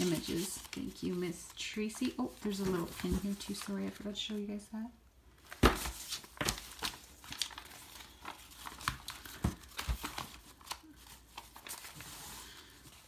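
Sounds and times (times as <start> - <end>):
paper crinkling and rustling: 0.0 - 4.4, 5.4 - 13.0.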